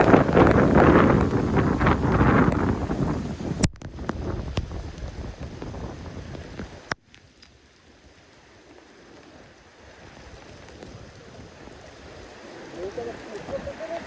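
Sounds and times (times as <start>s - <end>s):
heavy rain and wind: 0.0s - 14.0s
rain falling: 0.0s - 14.0s.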